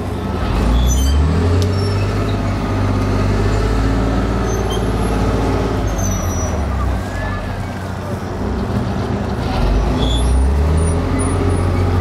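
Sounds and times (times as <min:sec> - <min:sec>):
tank diesel engine revving: 0:00.0 - 0:12.0.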